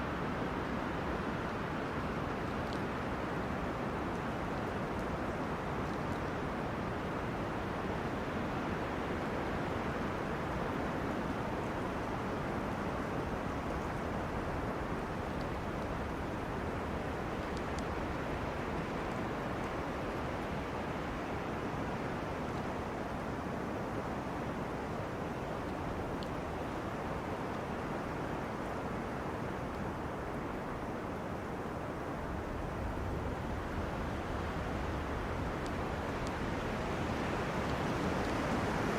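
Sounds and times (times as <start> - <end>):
wind rushing through trees: 0.0 - 38.9.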